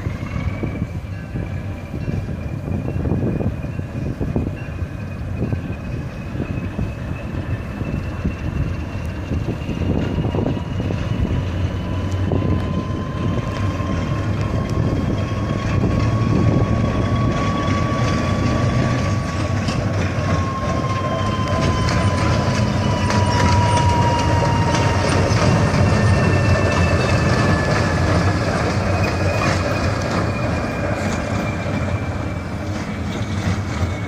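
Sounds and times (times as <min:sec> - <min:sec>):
diesel locomotive engine rumbling: 0:00.0 - 0:34.0
high whine: 0:00.0 - 0:34.0
wheels clicking on track: 0:00.0 - 0:34.0.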